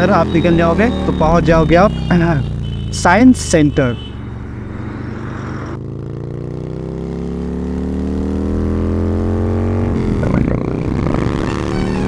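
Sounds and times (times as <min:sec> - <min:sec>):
motorcycle engine accelerating: 0:00.0 - 0:03.0, 0:04.2 - 0:12.0.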